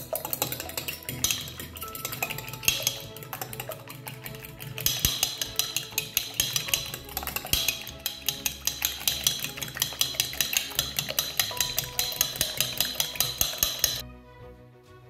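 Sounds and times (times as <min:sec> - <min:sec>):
music with percussive beat: 0:00.0 - 0:14.0.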